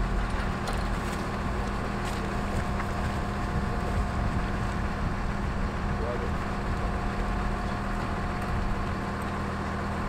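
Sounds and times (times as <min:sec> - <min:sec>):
motor humming and rumbling: 0:00.0 - 0:10.0
outdoor background noise: 0:00.0 - 0:10.0.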